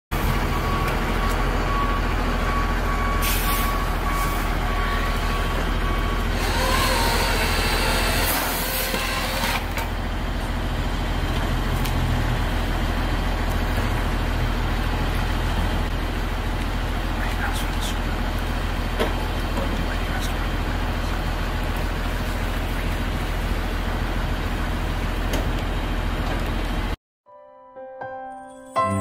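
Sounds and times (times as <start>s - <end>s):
crane engine running: 0.2s - 27.0s.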